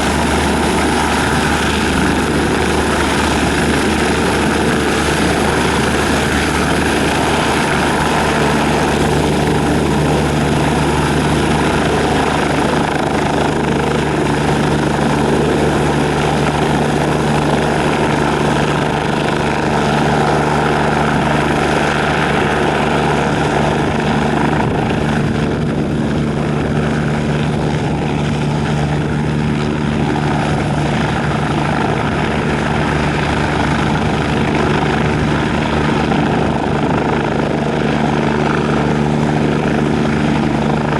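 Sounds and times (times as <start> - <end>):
helicopter engines and rotors: 0.0 - 40.9.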